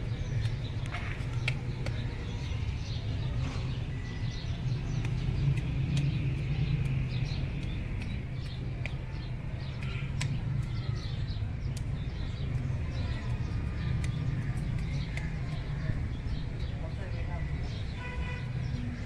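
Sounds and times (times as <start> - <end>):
low rumble of distant traffic: 0.0 - 19.0
small birds chirping: 0.0 - 19.0.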